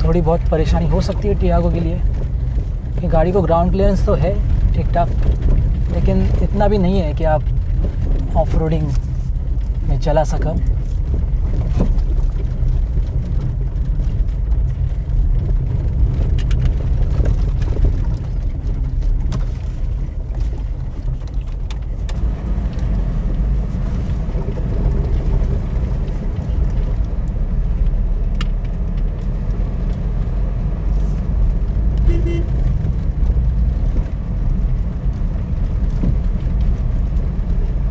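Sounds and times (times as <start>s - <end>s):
car rumbling on dirt track: 0.0s - 37.9s.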